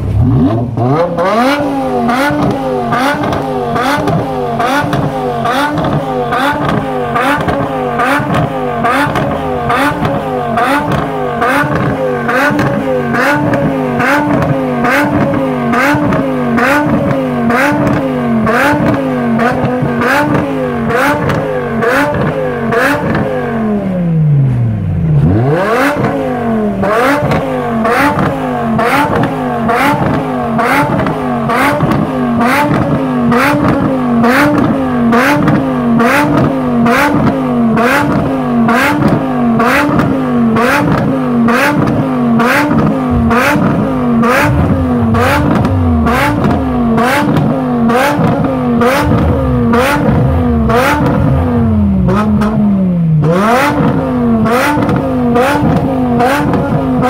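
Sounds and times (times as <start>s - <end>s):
exhaust cracks: 0.0s - 23.3s, 25.2s - 57.0s
car engine revving: 0.0s - 57.0s.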